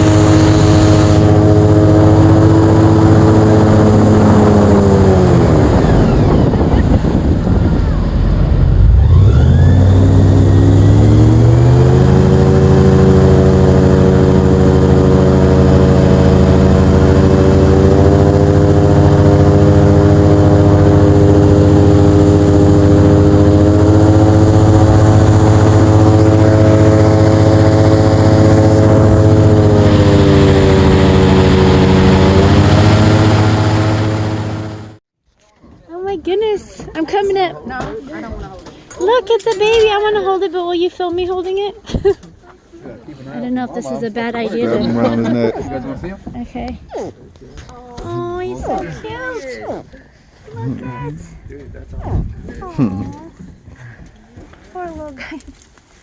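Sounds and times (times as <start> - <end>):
airboat engine and propeller: 0.0 - 35.0, 36.7 - 51.8.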